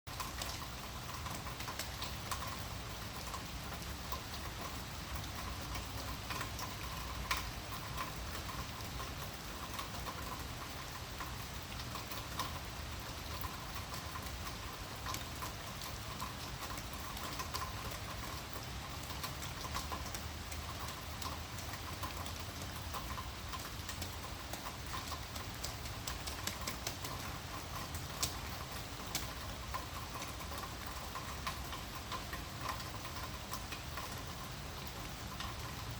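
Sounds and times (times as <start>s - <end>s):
rain drops pattering: 0.1s - 35.9s.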